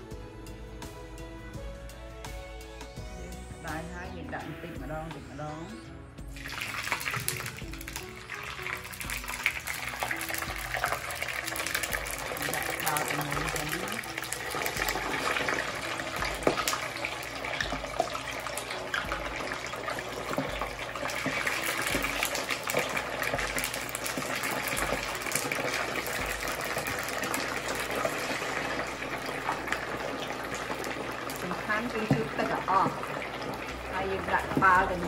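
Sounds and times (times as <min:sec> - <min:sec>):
fish deep-frying in oil: 0:06.3 - 0:35.0.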